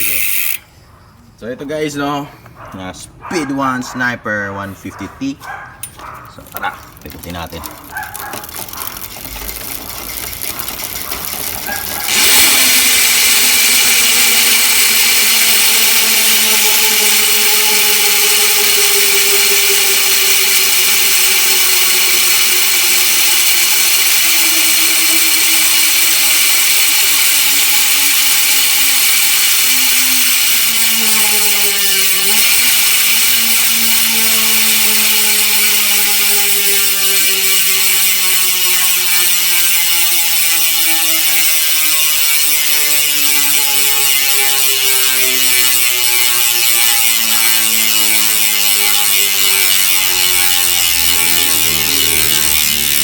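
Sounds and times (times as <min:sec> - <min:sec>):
freewheel hub buzzing: 0:00.0 - 0:00.8, 0:05.8 - 0:53.0.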